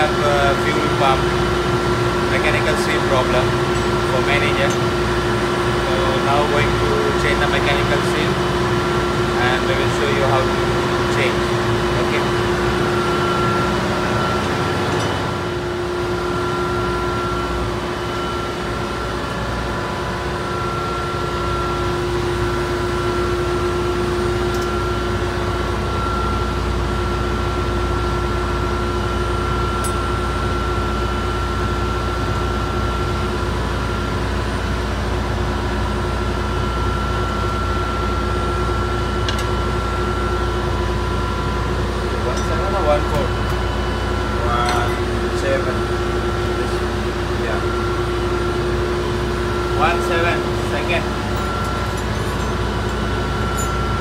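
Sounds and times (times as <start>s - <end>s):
engine-room machinery drone: 0.0s - 54.0s.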